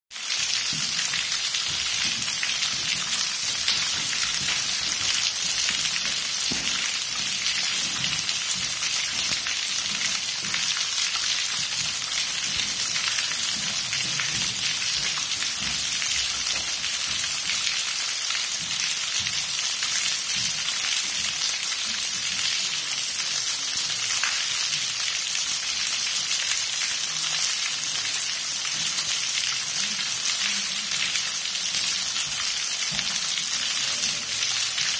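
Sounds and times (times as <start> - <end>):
water dripping onto rock: 0.2 - 22.6, 24.1 - 34.9.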